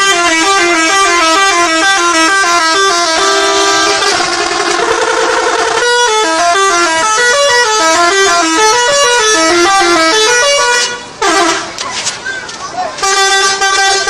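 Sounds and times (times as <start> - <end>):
multi-tone bus horn tune: 0.0 - 11.9, 13.0 - 14.0.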